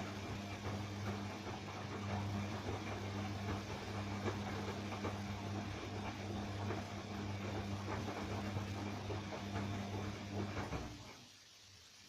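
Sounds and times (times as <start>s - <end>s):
washing machine motor humming: 0.0s - 11.4s.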